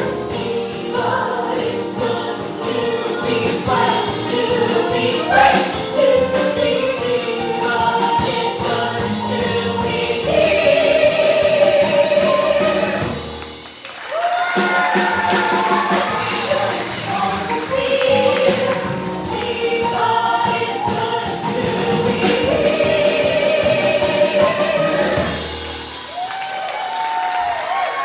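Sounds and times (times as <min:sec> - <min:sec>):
voices singing held notes: 0:00.0 - 0:13.4, 0:15.2 - 0:25.8.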